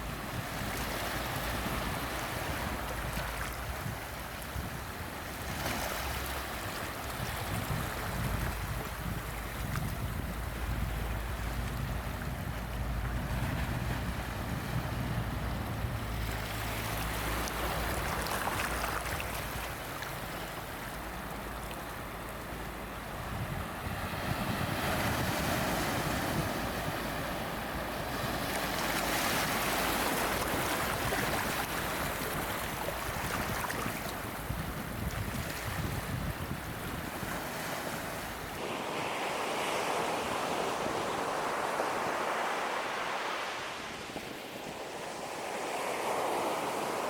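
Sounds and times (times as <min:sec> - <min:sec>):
ocean waves breaking on shore: 0:00.0 - 0:47.0.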